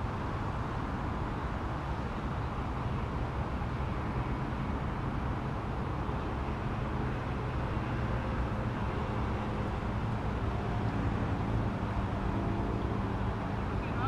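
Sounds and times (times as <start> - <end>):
vehicle low rumble: 0.0 - 14.0.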